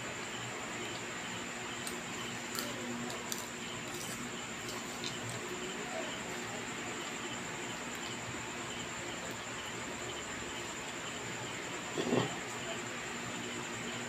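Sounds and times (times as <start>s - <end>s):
room tone hiss: 0.0s - 14.0s.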